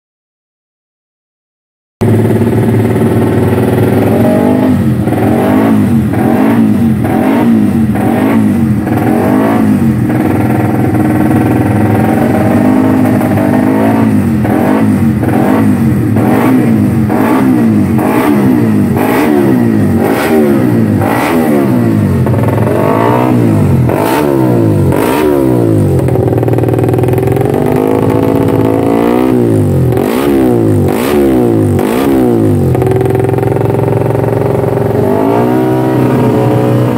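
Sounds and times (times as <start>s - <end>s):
motorcycle engine revving: 2.0s - 36.9s.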